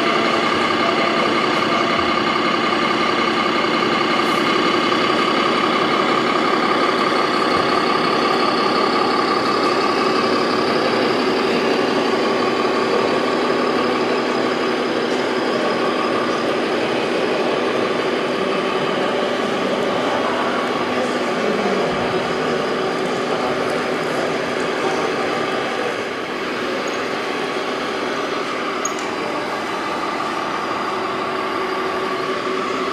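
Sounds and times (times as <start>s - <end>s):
diesel truck engine idling from loudspeaker: 0.0s - 32.9s.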